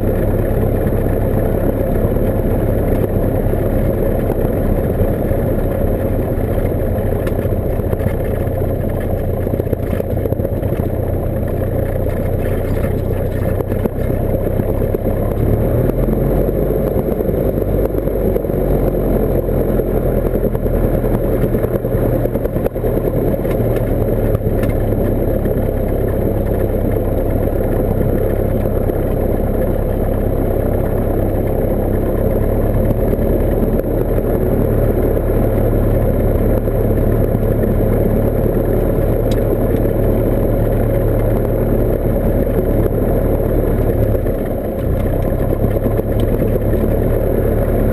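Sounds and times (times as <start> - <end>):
propeller engine drone: 0.0 - 47.9.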